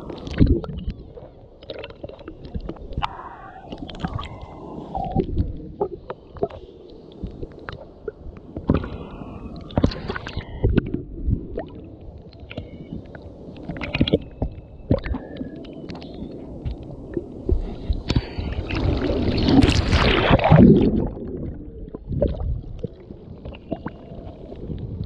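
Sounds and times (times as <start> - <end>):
water sloshing and gurgling: 0.0 - 25.0.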